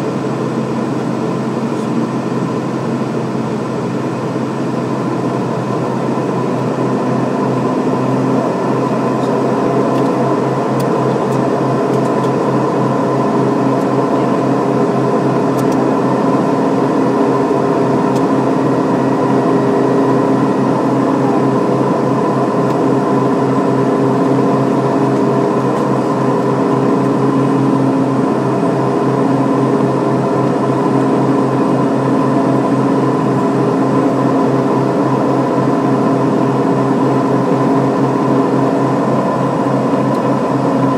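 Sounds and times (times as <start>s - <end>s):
turboprop propeller drone: 0.0s - 40.9s.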